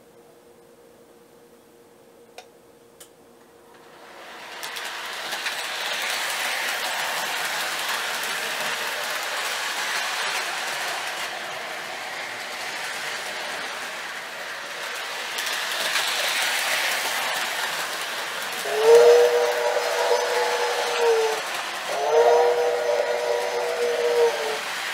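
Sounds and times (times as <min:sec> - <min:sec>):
model train rolling on track: 0:03.7 - 0:24.9.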